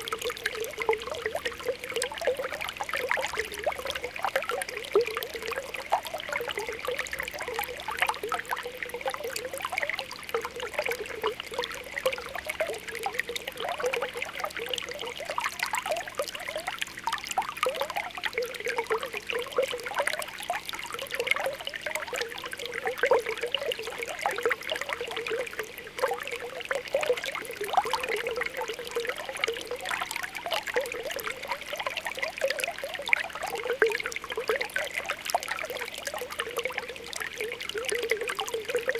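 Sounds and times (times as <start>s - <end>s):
spring water bubbling: 0.0s - 38.9s
water trickling: 0.0s - 38.9s.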